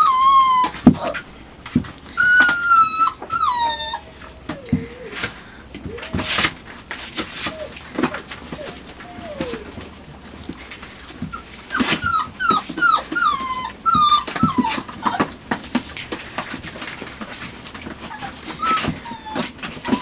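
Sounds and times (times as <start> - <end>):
puppy whimpering: 0.0 - 1.3, 2.1 - 10.4, 11.0 - 15.4, 17.8 - 20.0.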